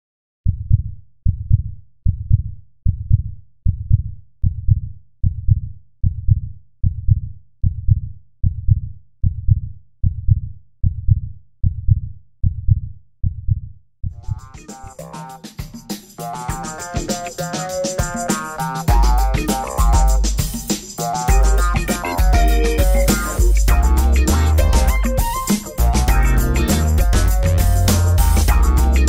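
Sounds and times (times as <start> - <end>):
heartbeat thumps: 0.5 - 14.9, 18.9 - 29.0.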